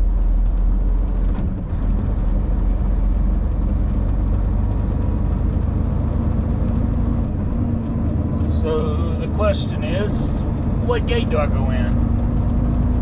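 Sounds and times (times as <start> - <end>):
truck diesel engine and road noise: 0.0 - 13.0.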